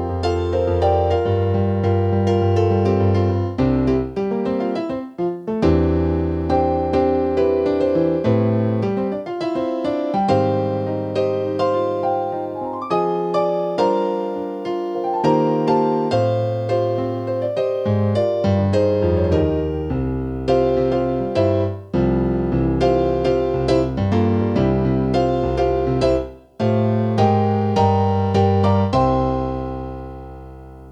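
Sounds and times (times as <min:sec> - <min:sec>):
digital keyboard piano melody: 0:00.0 - 0:30.9.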